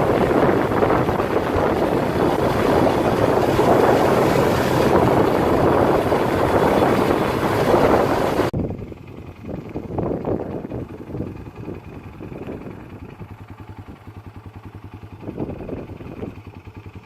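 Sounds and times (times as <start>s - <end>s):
wind rushing over microphone: 0.0s - 16.6s
utility vehicle engine running: 0.0s - 17.0s.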